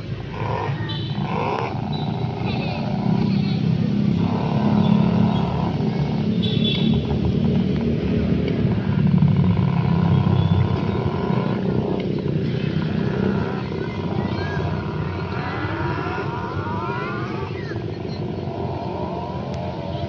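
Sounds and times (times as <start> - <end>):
motorbike engine running: 0.0 - 20.0.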